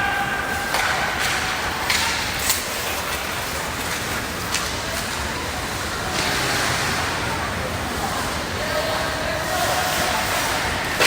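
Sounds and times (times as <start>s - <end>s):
hockey sticks clacking: 0.0s - 7.0s, 8.9s - 11.0s
hockey game noise: 0.0s - 11.0s.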